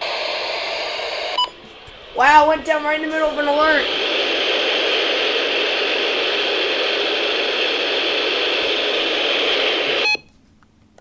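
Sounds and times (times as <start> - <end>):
radio static: 0.0 - 10.2.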